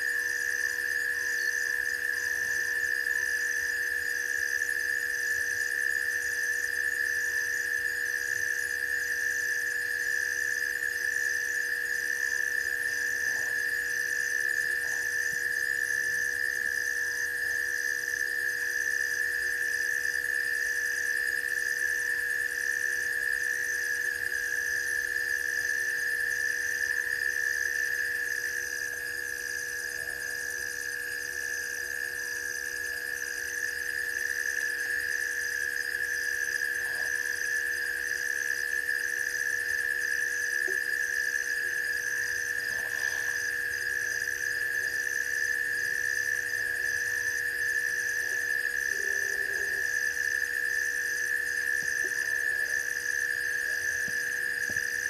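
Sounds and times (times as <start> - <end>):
insect chirping: 0.0 - 55.0
insects droning: 0.0 - 55.0.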